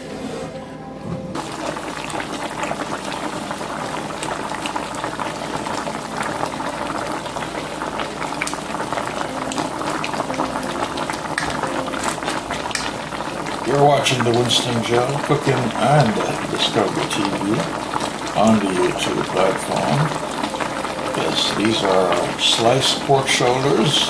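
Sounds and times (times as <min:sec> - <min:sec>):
sauce simmering with bubbling pops: 0:01.4 - 0:24.0.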